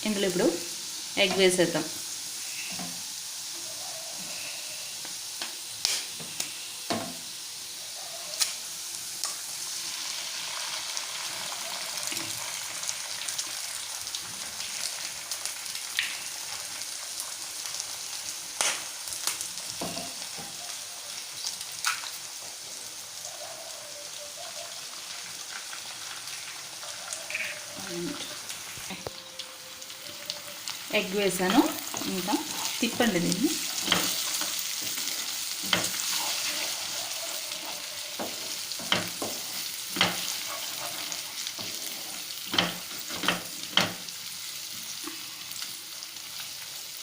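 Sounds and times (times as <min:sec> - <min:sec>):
eggs sizzling in oil: 0:00.0 - 0:47.0.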